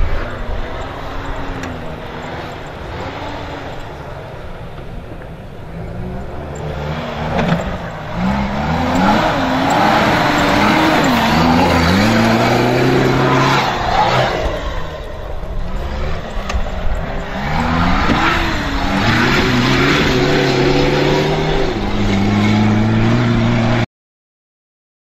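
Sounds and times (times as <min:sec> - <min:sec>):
rally car engine revving: 0:00.0 - 0:23.8.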